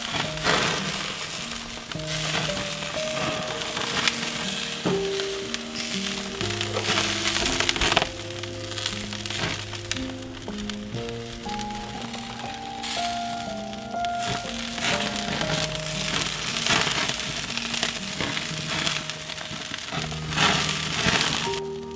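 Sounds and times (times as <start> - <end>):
skewers sizzling on grill: 0.0 - 21.9
soft background music: 0.0 - 21.9.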